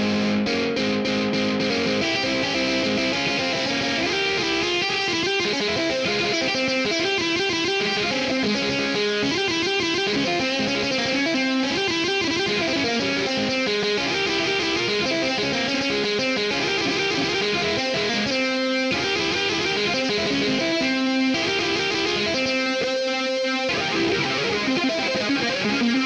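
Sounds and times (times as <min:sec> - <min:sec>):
distorted electric guitar fast run: 0:00.0 - 0:26.0.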